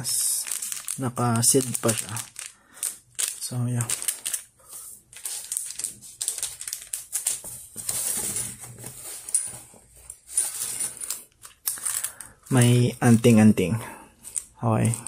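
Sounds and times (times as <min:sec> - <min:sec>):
plastic wrapper crinkling: 0:00.0 - 0:13.6, 0:14.2 - 0:15.0.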